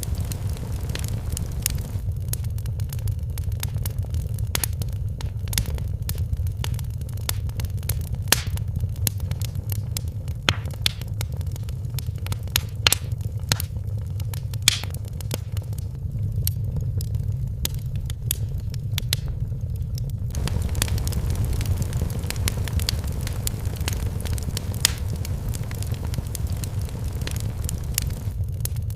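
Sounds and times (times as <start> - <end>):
low rumble of flames: 0.0 - 28.9
wood fire crackling and popping: 0.0 - 28.9.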